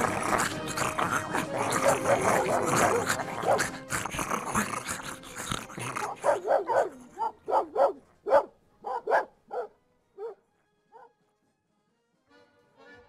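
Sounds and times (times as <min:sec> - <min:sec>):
dog barking: 0:00.0 - 0:11.1.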